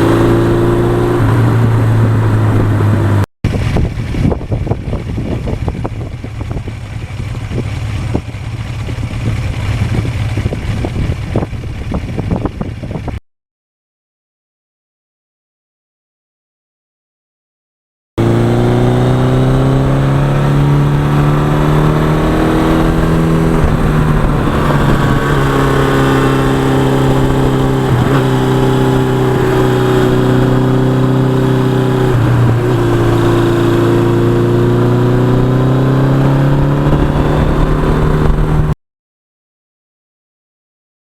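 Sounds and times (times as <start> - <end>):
motorcycle engine running: 0.0 - 13.2, 18.2 - 38.8.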